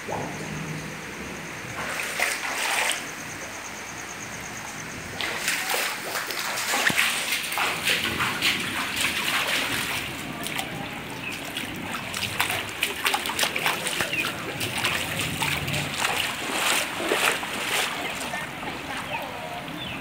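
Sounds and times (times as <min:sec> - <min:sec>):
floodwater splashing: 0:01.7 - 0:03.4, 0:05.1 - 0:20.0.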